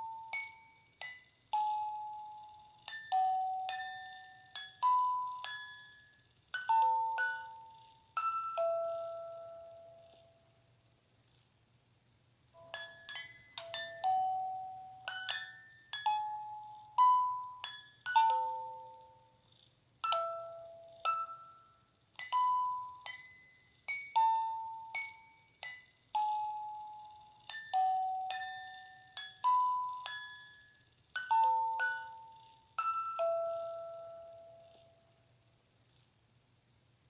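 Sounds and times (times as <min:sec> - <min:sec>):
bell-like lullaby melody: 0:00.0 - 0:10.5, 0:12.6 - 0:19.4, 0:20.0 - 0:35.2.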